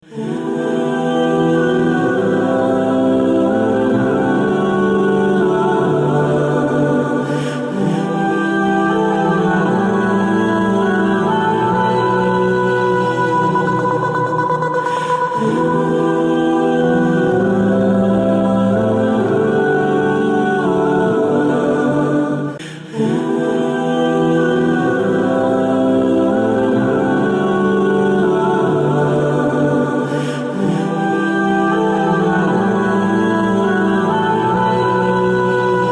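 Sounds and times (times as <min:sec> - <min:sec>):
voices singing held chords: 0:00.0 - 0:35.9.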